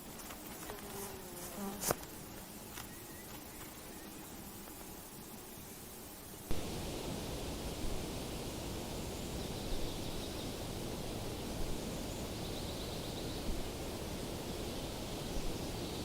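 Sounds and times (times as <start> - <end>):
rushing hiss of nature ambience: 0.0 - 16.0.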